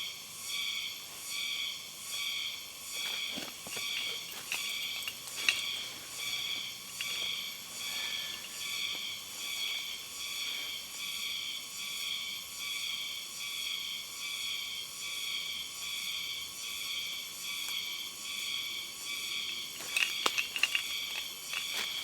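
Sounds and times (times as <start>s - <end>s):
faint steady whine: 0.0s - 22.0s
insects trilling: 0.0s - 22.0s.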